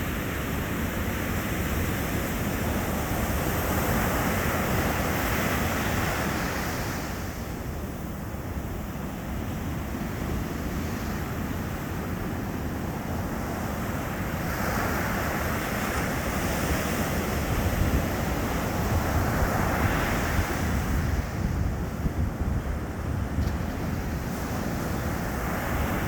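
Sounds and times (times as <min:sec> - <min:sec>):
surf rumbling: 0:00.0 - 0:26.0.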